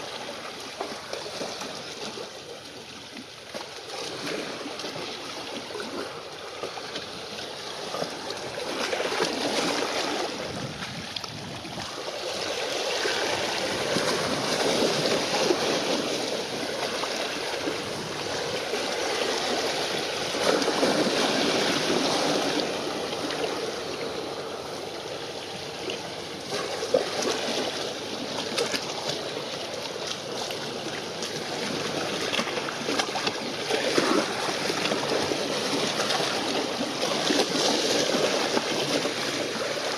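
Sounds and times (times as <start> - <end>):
sea water lapping on shore: 0.0 - 39.9.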